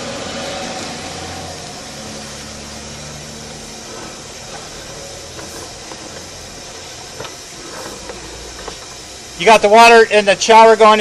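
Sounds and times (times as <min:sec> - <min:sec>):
engine running: 0:00.0 - 0:11.0
even hiss: 0:00.0 - 0:11.0.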